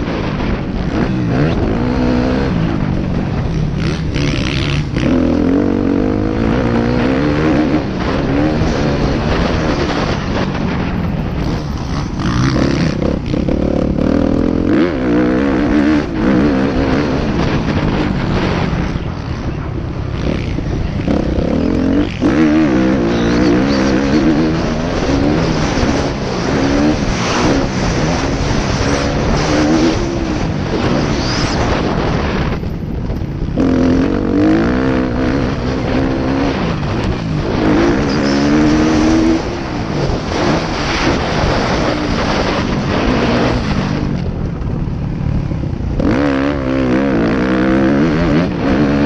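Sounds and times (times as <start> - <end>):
motocross motorcycle engine revving: 0.0 - 49.0.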